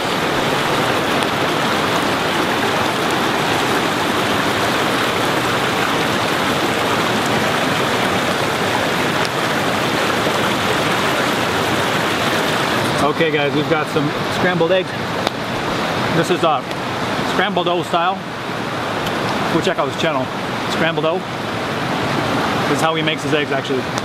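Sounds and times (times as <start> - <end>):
creek splashing over stones: 0.0 - 24.0.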